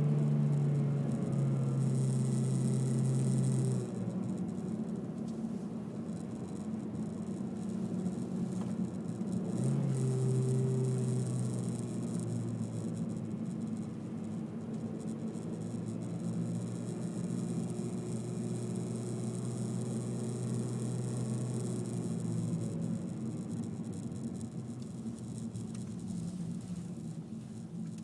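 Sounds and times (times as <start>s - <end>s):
car engine drone: 0.0s - 28.0s.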